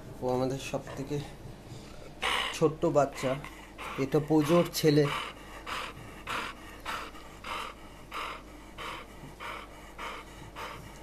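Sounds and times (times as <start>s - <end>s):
dog panting: 0.5s - 11.0s.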